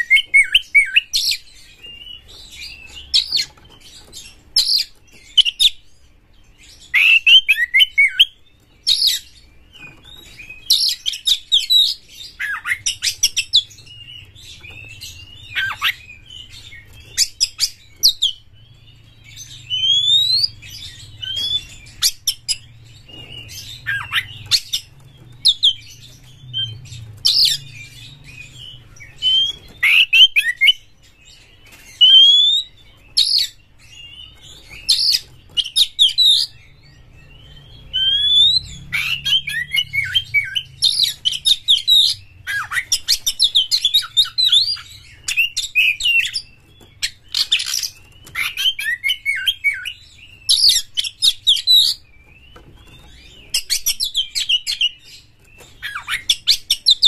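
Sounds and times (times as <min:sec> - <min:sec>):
bird singing whistles and chatters: 0:06.6 - 0:57.0.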